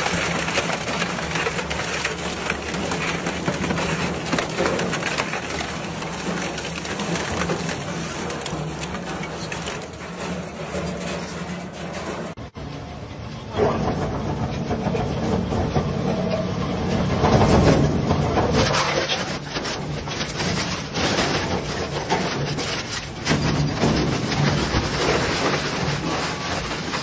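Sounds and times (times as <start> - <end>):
shredder grinding and cracking plastic: 0.0 - 12.4, 16.9 - 27.0.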